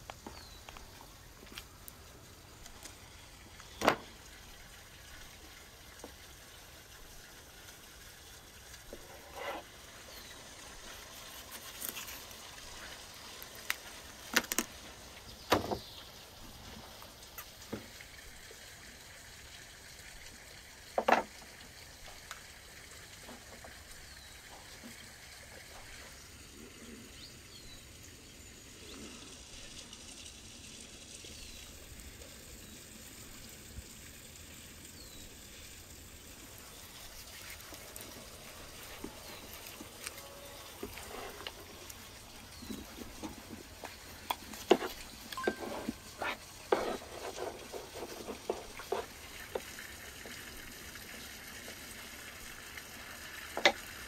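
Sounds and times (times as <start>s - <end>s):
faint outdoor background: 0.0s - 54.0s.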